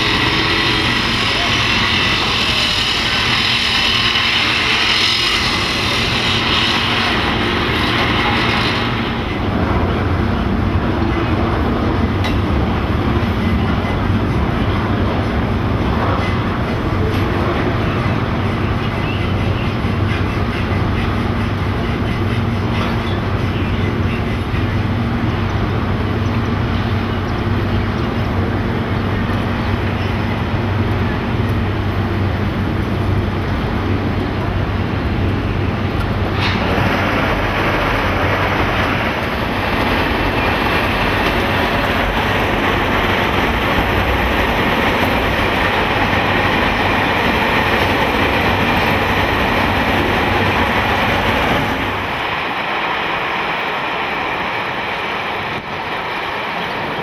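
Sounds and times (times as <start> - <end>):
hissy outdoor noise: 0.0 - 57.0
train rumbling with low hum: 0.0 - 57.0.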